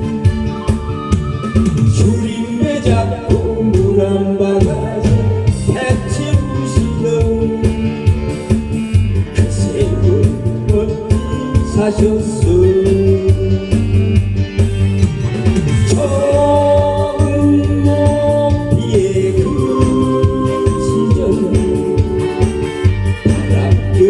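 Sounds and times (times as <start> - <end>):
trot music with beat and bass: 0.0 - 24.0.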